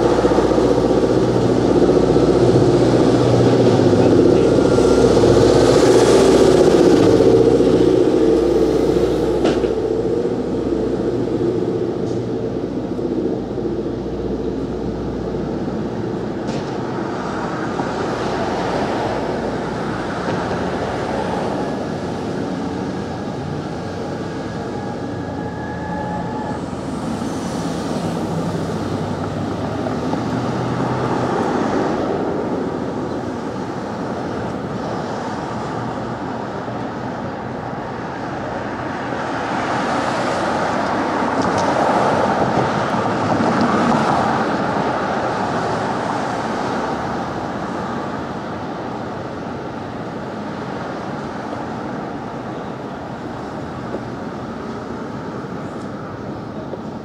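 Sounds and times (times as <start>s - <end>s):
cars passing: 0.0s - 57.0s
vehicle engine close by: 0.0s - 57.0s.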